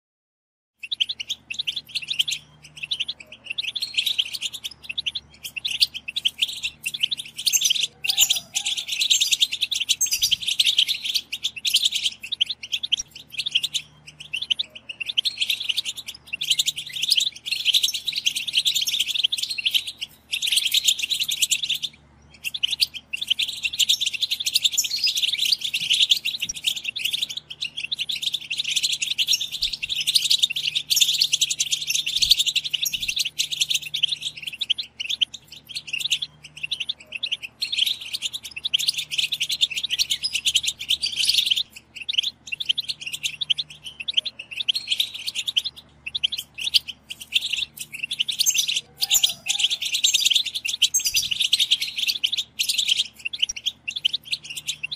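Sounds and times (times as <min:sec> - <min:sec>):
finches twittering: 0:00.8 - 0:54.9.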